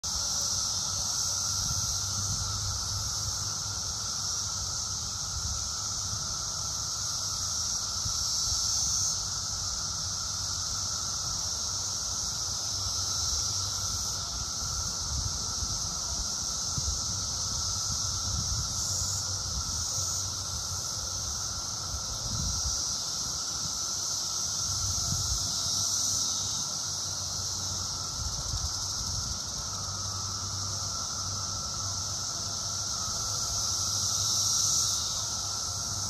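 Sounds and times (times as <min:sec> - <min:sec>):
cicadas calling lower: 0:00.0 - 0:36.0
cicadas high buzz: 0:00.0 - 0:36.0.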